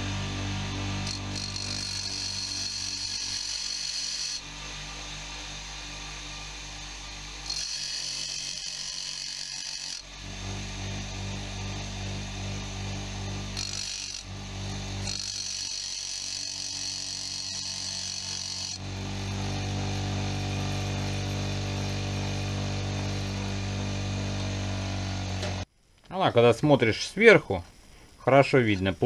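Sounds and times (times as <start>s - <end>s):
electric grinder motor humming: 0.0s - 25.7s
high grinding hiss: 0.0s - 29.0s.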